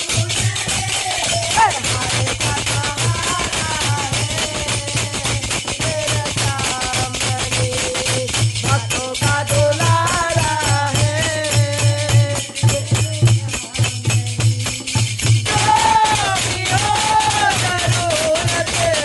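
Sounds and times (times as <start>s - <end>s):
dholak drum beat: 0.0s - 19.0s
jingling hand percussion: 0.0s - 19.0s
woman singing: 0.0s - 19.0s.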